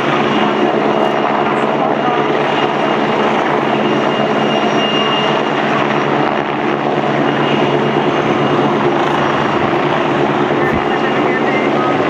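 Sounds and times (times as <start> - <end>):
helicopter drone: 0.0 - 12.0.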